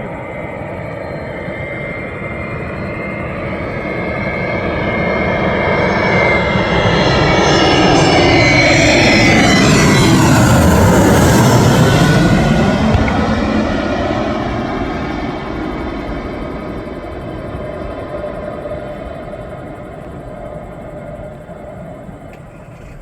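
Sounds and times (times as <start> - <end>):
airplane engine: 0.0 - 23.0.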